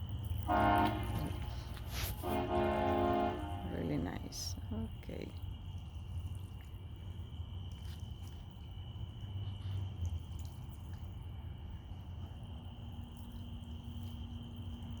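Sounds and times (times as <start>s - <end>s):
fountain trickling and dripping: 0.0s - 15.0s
high insect trill: 0.0s - 15.0s
low hum: 0.0s - 15.0s.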